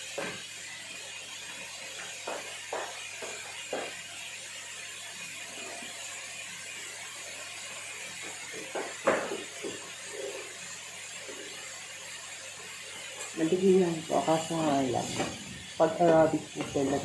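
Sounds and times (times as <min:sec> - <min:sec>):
mushrooms sizzling in a pan: 0:00.0 - 0:17.0.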